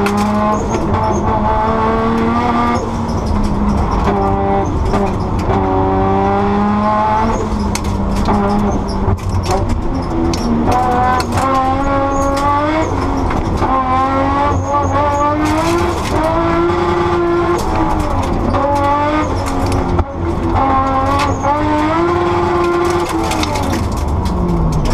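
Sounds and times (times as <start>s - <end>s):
car engine revving through gears: 0.0s - 24.9s.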